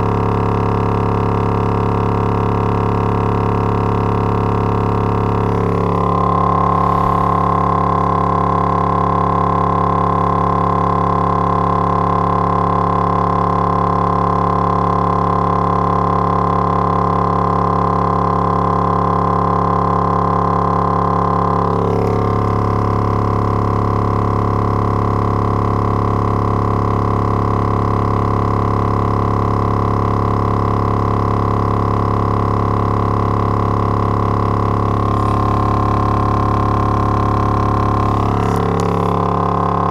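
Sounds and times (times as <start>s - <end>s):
subwoofer droning low test tone: 0.0s - 39.9s.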